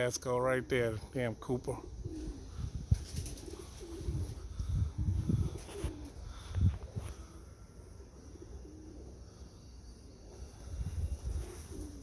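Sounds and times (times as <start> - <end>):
pigeons cooing: 0.5 - 12.0.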